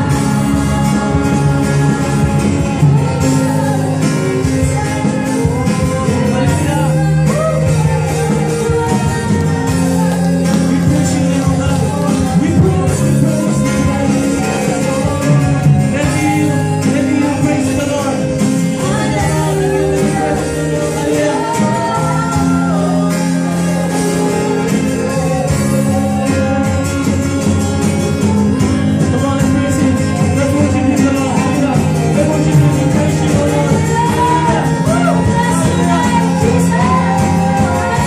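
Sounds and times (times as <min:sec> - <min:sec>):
drum kit beat: 0:00.0 - 0:38.0
electric guitars: 0:00.0 - 0:38.0
people singing into microphones: 0:00.0 - 0:38.0.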